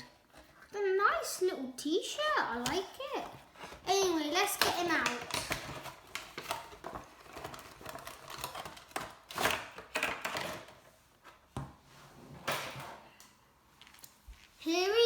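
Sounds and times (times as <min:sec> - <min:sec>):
cardboard and plastic packaging rustling: 0:02.5 - 0:15.0.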